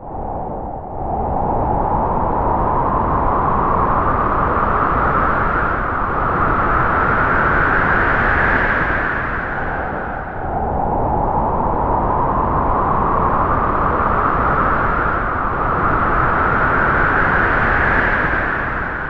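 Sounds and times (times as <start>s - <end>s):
wind howling through trees: 0.0s - 19.0s.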